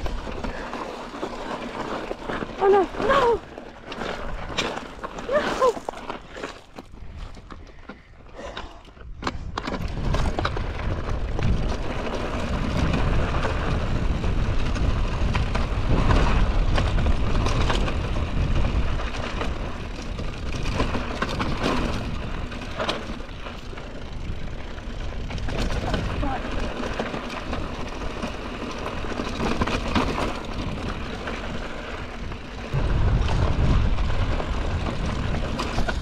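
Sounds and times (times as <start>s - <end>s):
mountain bike on rocky trail: 0.0s - 36.0s.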